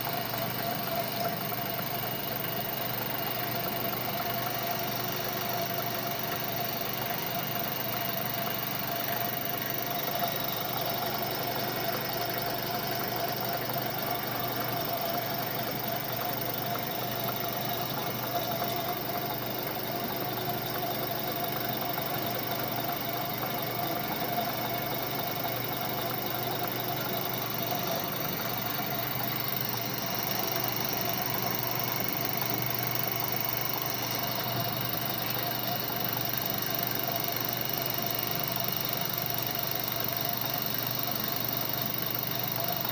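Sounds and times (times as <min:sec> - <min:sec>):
lathe running: 0:00.0 - 0:42.9.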